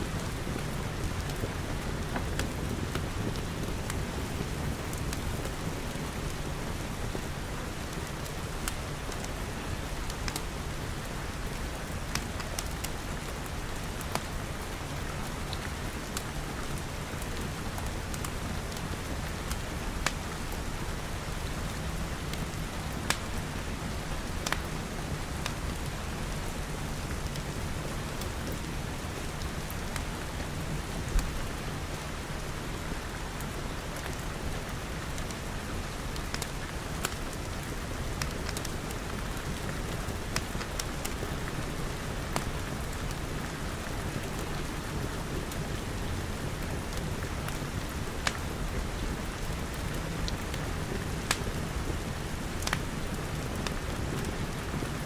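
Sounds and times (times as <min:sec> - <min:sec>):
wood fire crackling and popping: 0:00.1 - 0:25.9, 0:27.0 - 0:30.1, 0:33.4 - 0:55.0
rain pattering on glass: 0:00.1 - 0:55.0.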